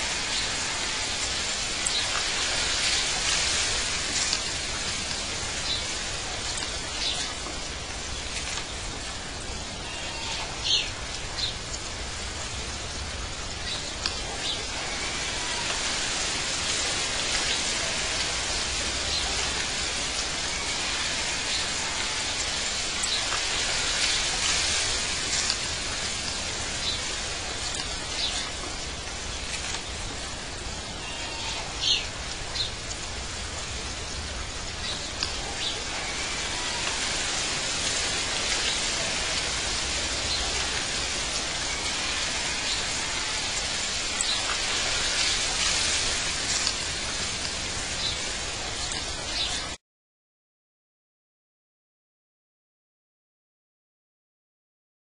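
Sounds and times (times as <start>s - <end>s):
steady hiss: 0.0s - 49.8s.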